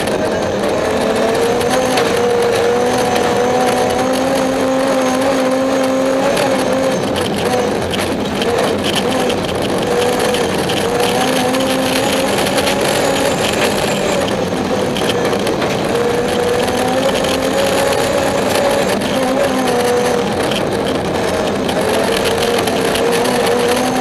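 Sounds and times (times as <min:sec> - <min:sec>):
car engine running hard: 0:00.0 - 0:24.0
road noise rushing: 0:00.0 - 0:24.0.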